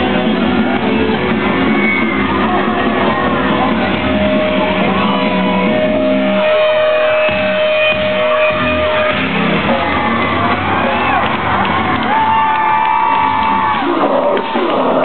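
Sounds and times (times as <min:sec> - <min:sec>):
distorted electric guitars: 0:00.0 - 0:15.0
drums: 0:00.0 - 0:15.0.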